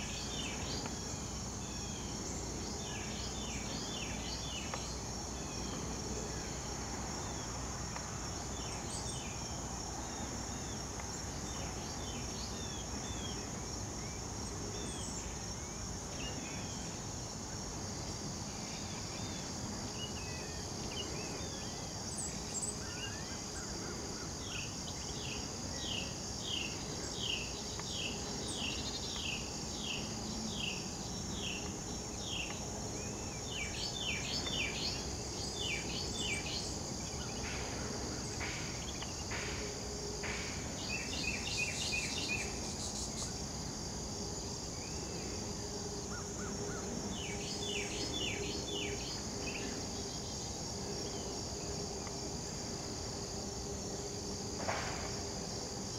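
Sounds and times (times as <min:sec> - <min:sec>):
insects chorus: 0:00.0 - 0:55.9.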